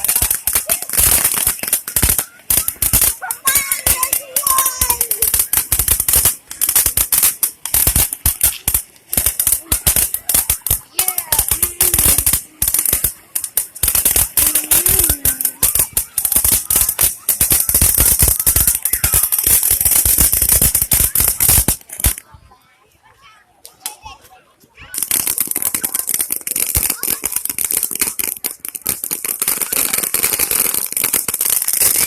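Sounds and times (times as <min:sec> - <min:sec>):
firecrackers popping: 0:00.0 - 0:22.4, 0:23.6 - 0:24.2, 0:24.8 - 0:32.0
voices calling out: 0:00.0 - 0:32.0.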